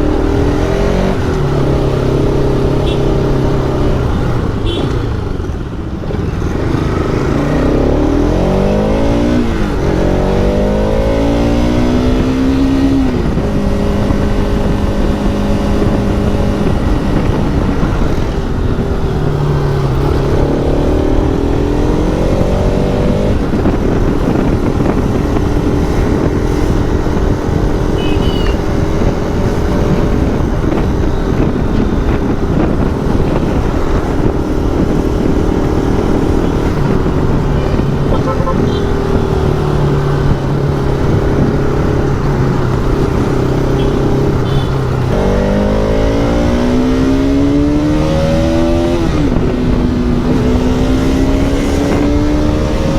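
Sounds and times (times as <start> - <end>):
motorcycle engine revving and shifting: 0.0 - 52.9.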